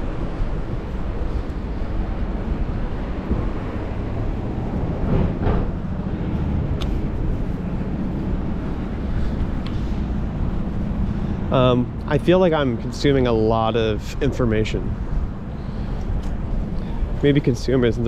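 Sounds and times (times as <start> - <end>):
passing vehicle: 0.0 - 18.0
street traffic rumble: 0.0 - 18.0
wind: 0.0 - 18.0.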